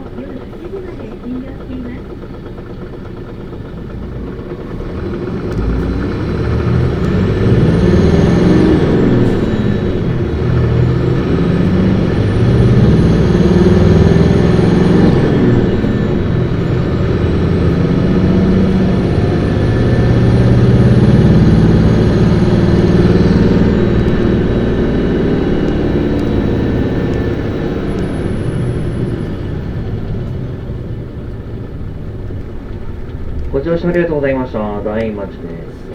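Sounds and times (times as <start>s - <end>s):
bus diesel engine revving: 0.0s - 35.9s.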